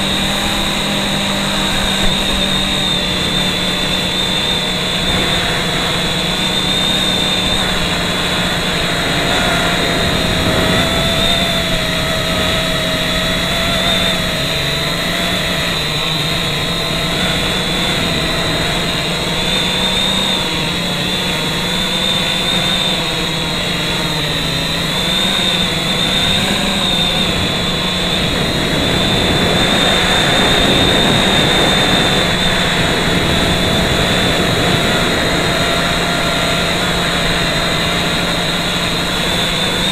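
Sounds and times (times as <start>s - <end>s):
drone motors and propellers whining: 0.0s - 39.9s.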